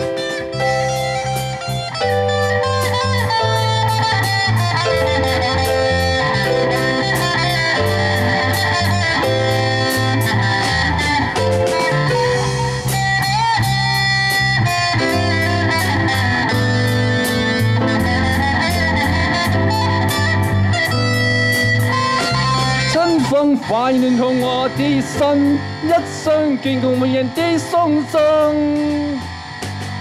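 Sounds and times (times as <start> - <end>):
bass guitar: 0.0 - 30.0
drum kit beat: 0.0 - 30.0
electric guitar melody: 0.0 - 30.0
keyboard: 0.0 - 30.0.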